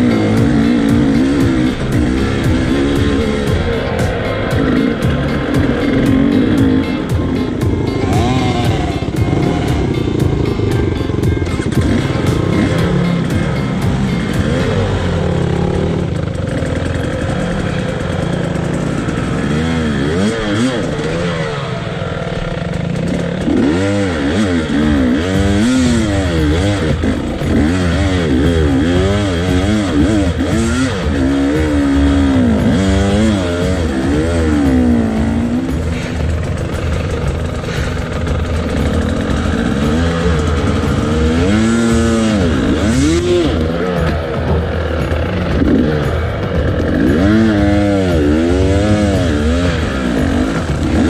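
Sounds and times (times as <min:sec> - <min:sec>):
engine revving: 0:00.0 - 0:51.0.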